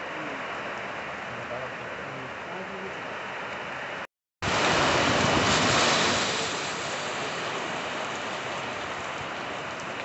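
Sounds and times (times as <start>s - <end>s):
heavy rain in strong wind: 0.0s - 10.0s.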